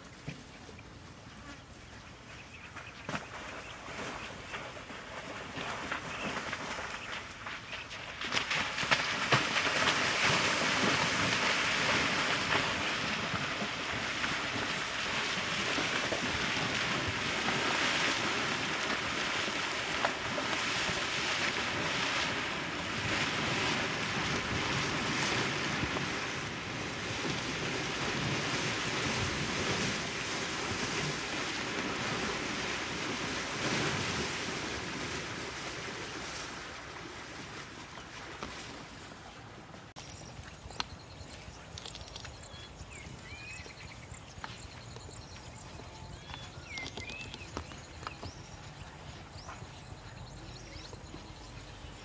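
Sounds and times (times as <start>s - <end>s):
elephants splashing through water: 2.7s - 52.0s.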